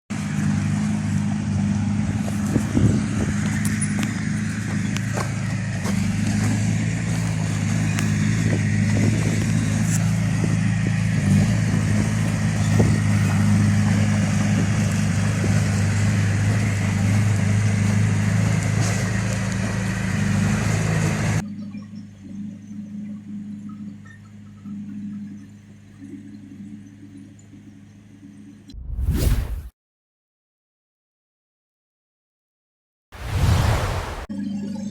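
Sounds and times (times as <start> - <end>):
diesel engine running: 0.1 - 28.7.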